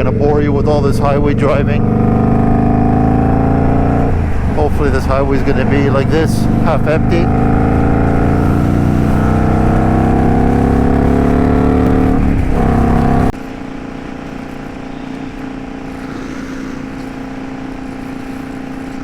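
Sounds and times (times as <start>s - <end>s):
motorcycle engine at speed: 0.0s - 19.0s.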